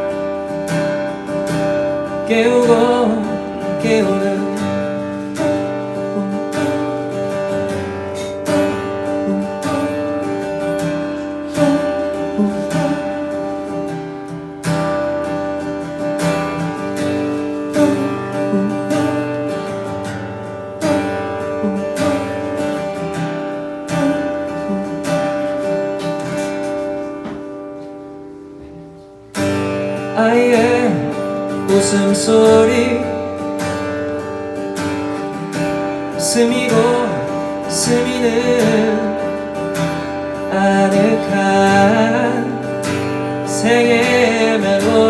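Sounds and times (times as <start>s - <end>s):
acoustic guitar strumming chords: 0.0s - 45.0s.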